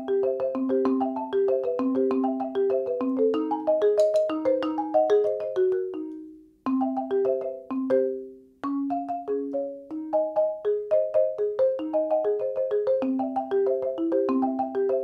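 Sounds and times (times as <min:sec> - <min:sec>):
marimba notes: 0:00.0 - 0:15.0.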